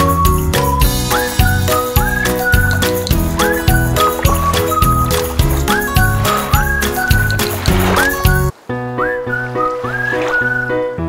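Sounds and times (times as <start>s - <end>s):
whistle-like melody: 0.0s - 11.0s.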